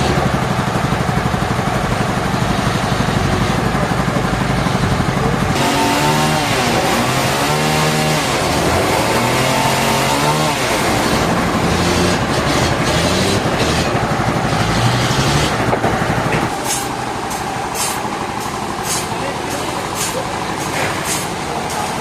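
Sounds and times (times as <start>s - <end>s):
engine changing speed: 0.0s - 22.0s.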